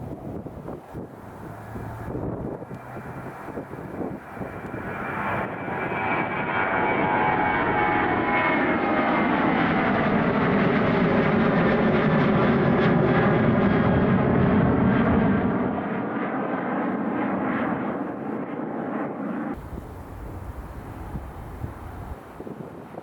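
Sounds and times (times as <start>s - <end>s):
jet engines at takeoff power: 0.0s - 23.0s
jet whine gliding downward: 0.0s - 23.0s.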